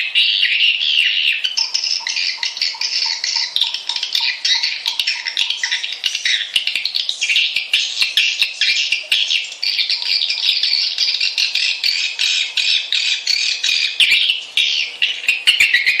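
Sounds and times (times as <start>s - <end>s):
rapid twittering bird chirps: 0.0s - 16.0s.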